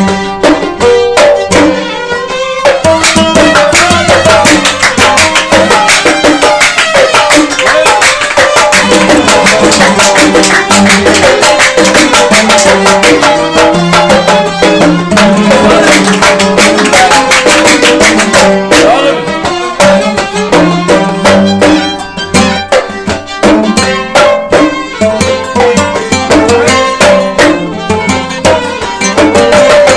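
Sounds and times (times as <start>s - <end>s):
hand drum rhythm: 0.0s - 29.9s
violins and qanun melody: 0.0s - 29.9s.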